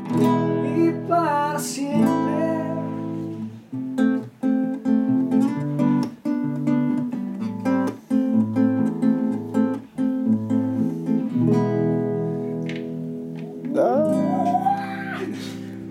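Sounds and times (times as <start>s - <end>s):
classical guitar strumming chords: 0.0s - 15.9s.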